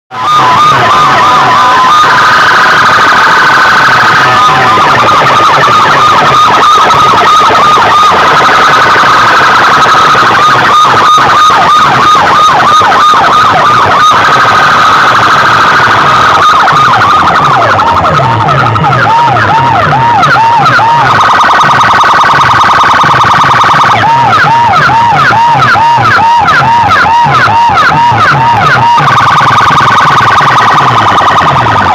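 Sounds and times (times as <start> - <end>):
electronic siren wailing: 0.1 - 31.9
fast low chirping pattern: 0.3 - 31.9.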